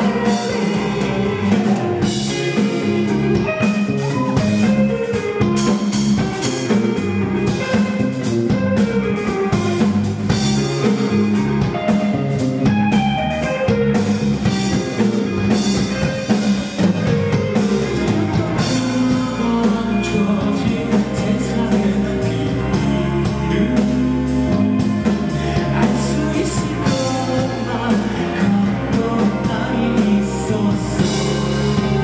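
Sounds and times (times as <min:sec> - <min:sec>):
drum kit beat: 0:00.0 - 0:32.0
electric bass: 0:00.0 - 0:32.0
electric guitar: 0:00.0 - 0:32.0.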